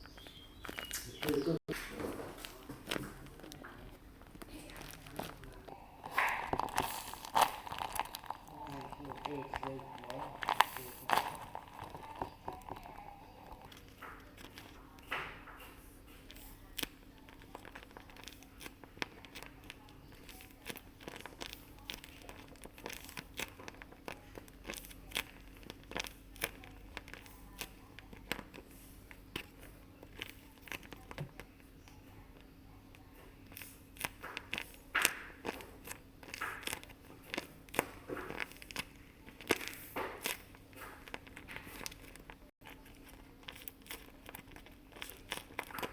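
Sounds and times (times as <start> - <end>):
paper and tape crinkling: 0.0 - 45.9
sharp crackles: 0.0 - 45.9.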